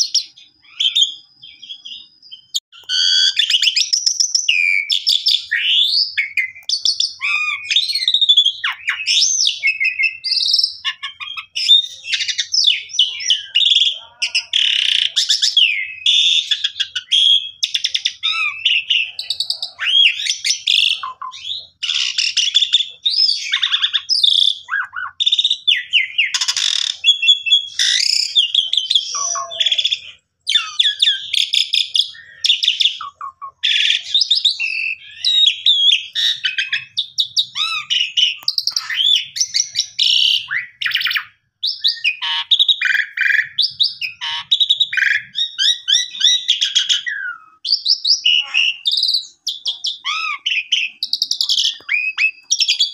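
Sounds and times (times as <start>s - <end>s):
starling singing: 0.0s - 52.9s.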